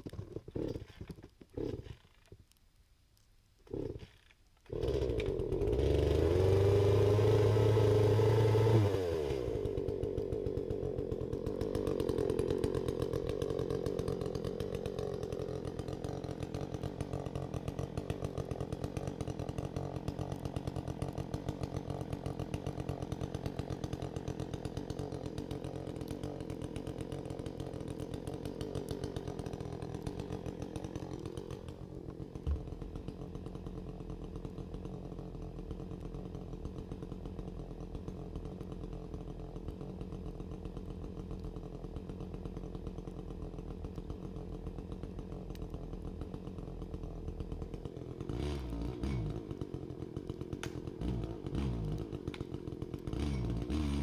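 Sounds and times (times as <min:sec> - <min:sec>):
chainsaw revving: 0:00.0 - 0:02.3, 0:03.6 - 0:54.0.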